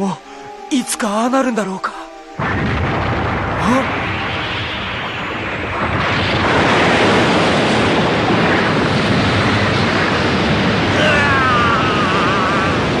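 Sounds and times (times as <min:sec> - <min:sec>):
heavy rain: 0:02.4 - 0:13.0
strong wind: 0:02.4 - 0:13.0.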